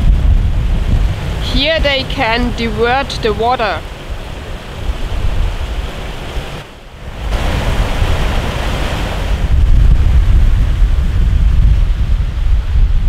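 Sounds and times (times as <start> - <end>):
water rushing in channel: 0.0 - 13.0
wind buffeting microphone: 0.0 - 13.0.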